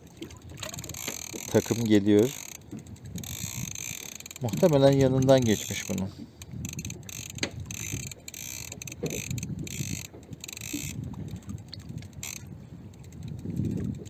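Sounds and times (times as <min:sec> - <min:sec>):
fishing reel ticking: 0:00.2 - 0:14.0.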